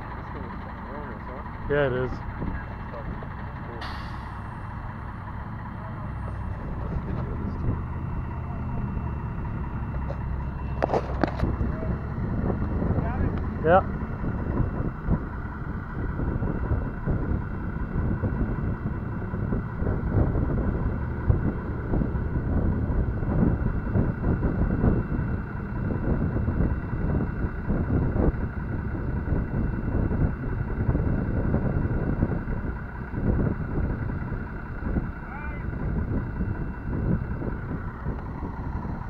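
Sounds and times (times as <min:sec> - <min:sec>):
diesel truck engine running: 0:00.0 - 0:39.0
wind buffeting microphone: 0:04.4 - 0:39.0.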